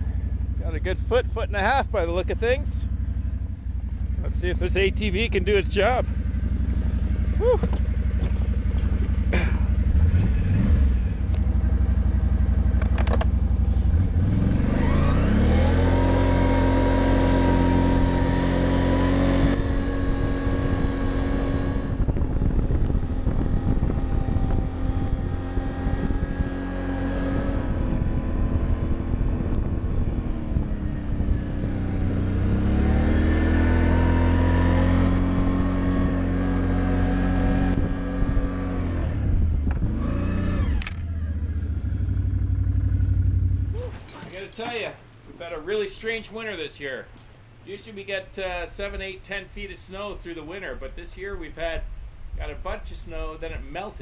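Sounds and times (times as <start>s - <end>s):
atv engine in snow: 0.0s - 47.9s.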